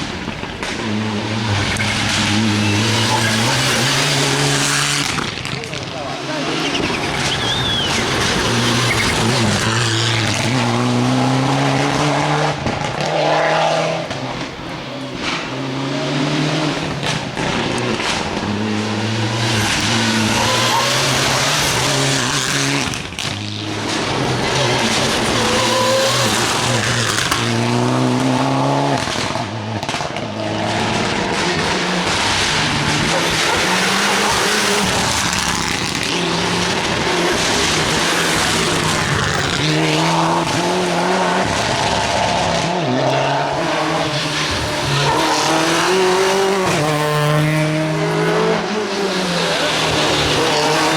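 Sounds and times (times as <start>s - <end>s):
rally car engines revving: 0.0s - 50.9s
tyre and road noise: 0.0s - 50.9s.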